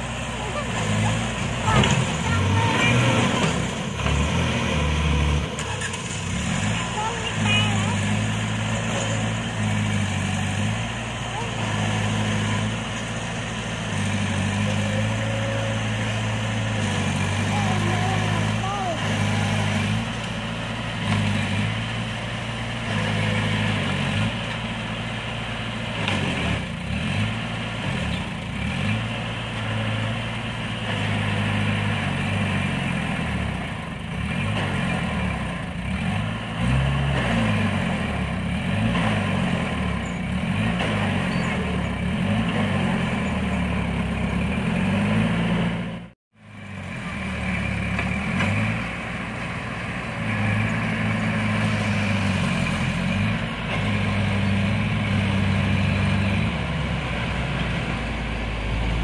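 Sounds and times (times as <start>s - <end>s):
diesel engines revving: 0.0s - 59.0s.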